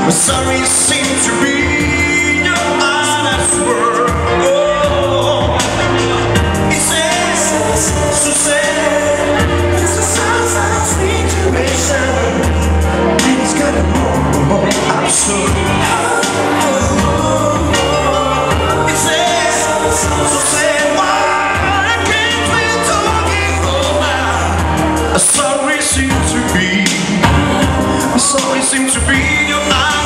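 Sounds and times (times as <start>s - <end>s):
electronic keyboard with bass: 0.0s - 30.0s
man singing into a microphone: 0.0s - 30.0s.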